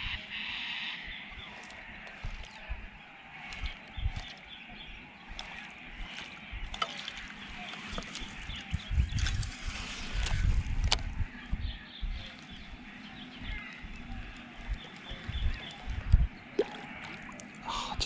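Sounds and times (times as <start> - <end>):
birds chorus: 0.0 - 18.0
water sloshing and lapping: 1.0 - 11.0, 12.2 - 17.8.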